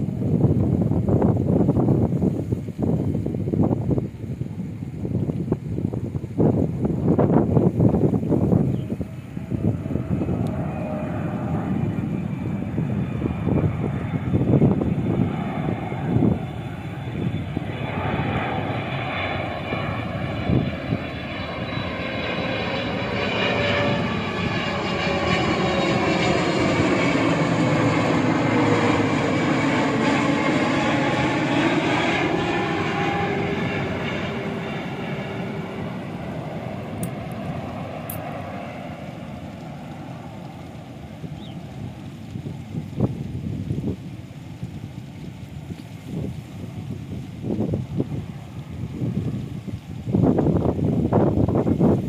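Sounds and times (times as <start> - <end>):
jet airliner passing overhead: 0.0 - 52.0
jet engine whine falling in pitch: 0.0 - 52.0.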